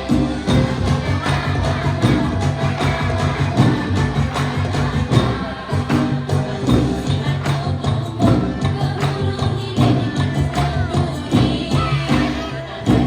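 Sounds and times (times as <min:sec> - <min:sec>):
bass notes beat: 0:00.0 - 0:13.0
jingling percussion: 0:00.0 - 0:13.0
loud live stage music: 0:00.0 - 0:13.0.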